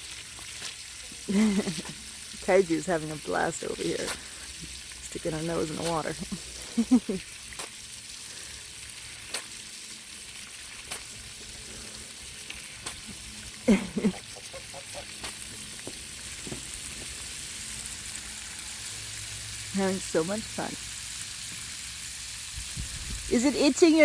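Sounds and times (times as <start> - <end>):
small splashes: 0.0 - 19.7
garden hose water spraying: 0.0 - 24.0.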